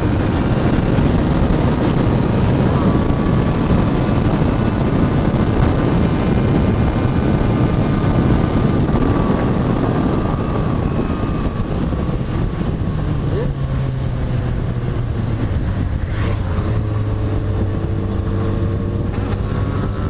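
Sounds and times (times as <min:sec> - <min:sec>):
faint engine whine: 0:00.0 - 0:20.0
motorcycle engine: 0:00.0 - 0:20.0
wind buffeting microphone: 0:00.0 - 0:20.0.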